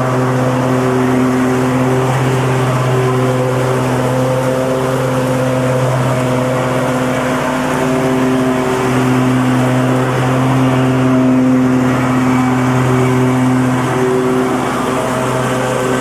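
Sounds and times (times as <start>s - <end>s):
lawnmower engine running: 0.0s - 16.0s.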